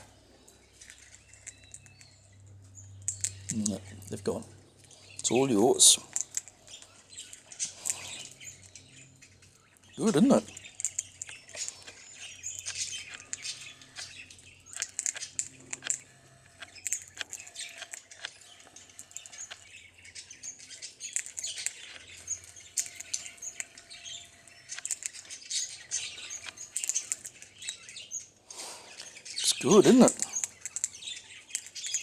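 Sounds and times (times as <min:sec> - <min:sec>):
birds chirping and tweeting: 0:00.0 - 0:32.0.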